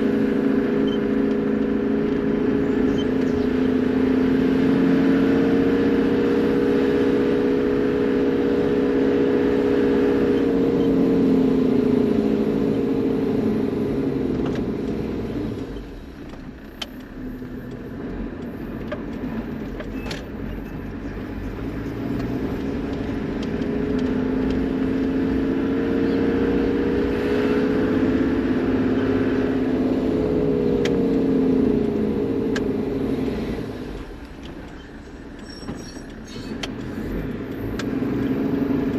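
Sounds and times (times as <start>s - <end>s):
vehicle engine droning with whine: 0.0s - 38.9s.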